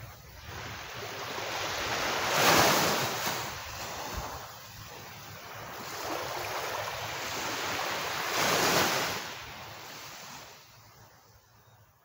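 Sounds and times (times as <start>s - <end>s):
small waves washing up beach: 0.0s - 11.4s.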